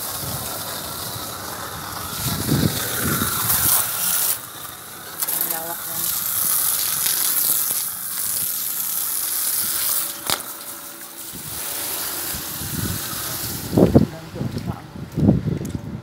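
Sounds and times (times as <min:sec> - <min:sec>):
water splashing onto tiles: 0:00.0 - 0:14.0.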